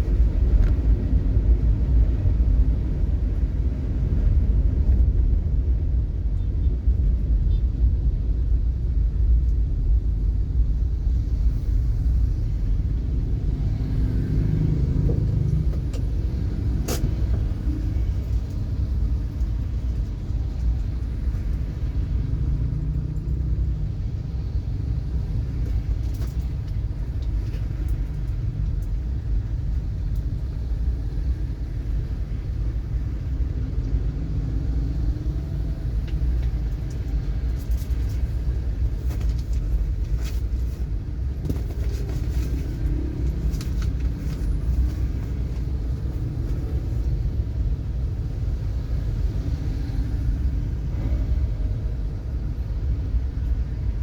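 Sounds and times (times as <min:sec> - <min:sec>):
car rumbling in traffic: 0:00.0 - 0:54.0.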